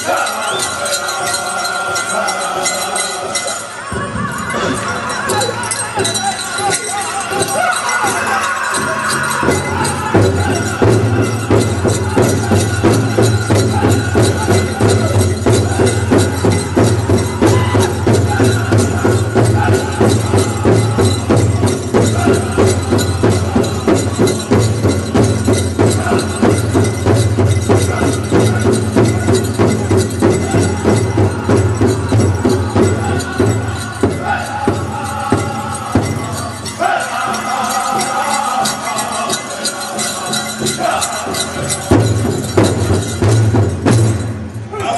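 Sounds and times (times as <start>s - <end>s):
high-pitched group singing: 0.0s - 43.7s
large drum beating: 3.9s - 44.8s.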